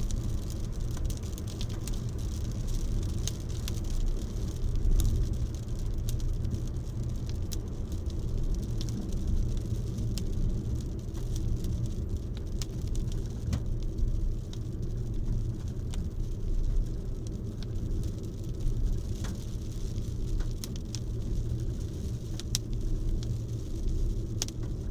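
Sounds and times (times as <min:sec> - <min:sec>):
low rumble: 0:00.0 - 0:24.9
rain falling: 0:00.0 - 0:24.9.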